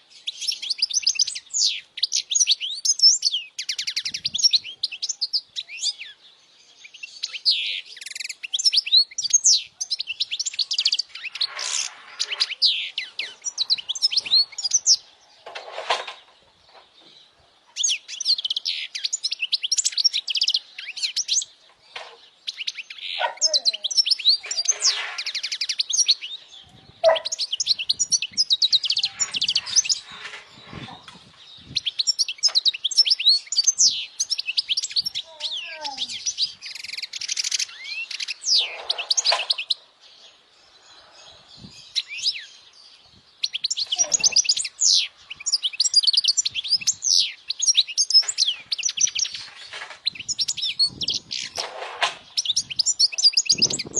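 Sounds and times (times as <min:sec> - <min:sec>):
bird twittering and chirping: 0:00.0 - 0:53.9.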